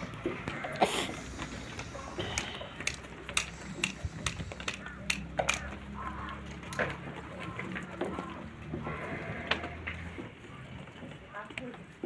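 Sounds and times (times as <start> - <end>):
sheep hooves clicking on concrete: 0.0 - 12.0.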